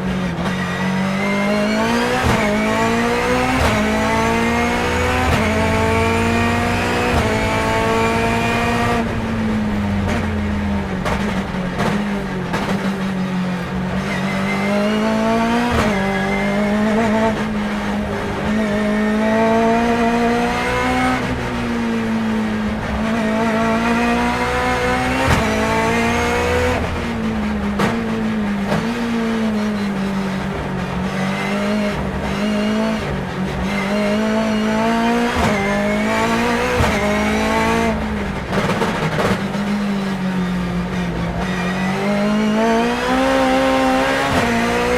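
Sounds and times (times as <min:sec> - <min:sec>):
car engine accelerating hard: 0:00.0 - 0:44.9.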